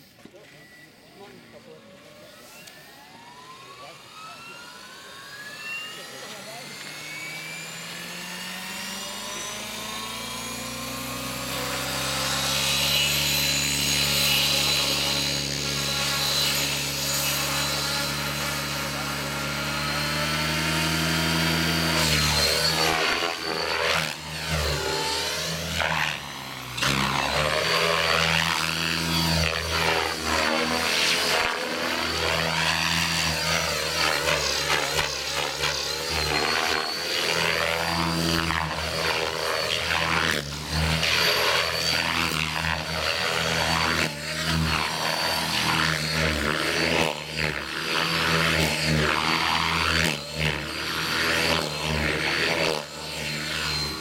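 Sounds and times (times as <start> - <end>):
model helicopter motor whine: 0.0 - 54.0.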